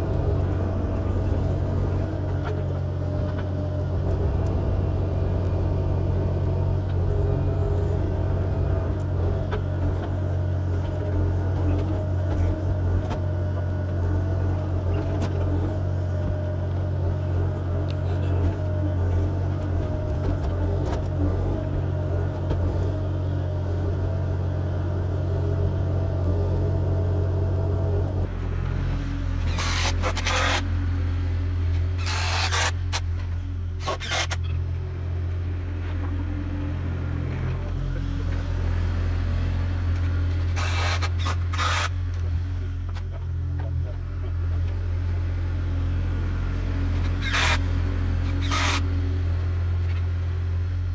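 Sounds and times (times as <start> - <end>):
diesel engine humming: 0.0 - 50.9.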